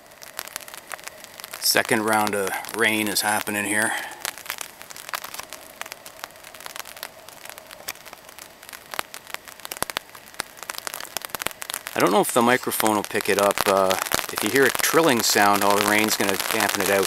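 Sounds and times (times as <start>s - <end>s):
rain pattering on tarp: 0.0s - 17.0s.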